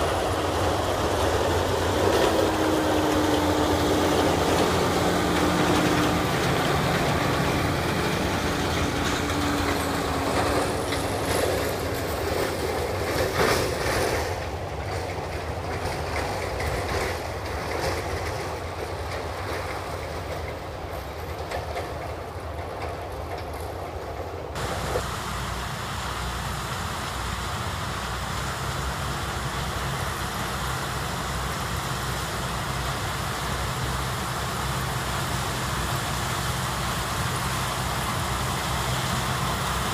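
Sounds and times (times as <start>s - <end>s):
distant combine harvester drone: 0.0s - 39.9s
tractor engine running: 0.0s - 39.9s.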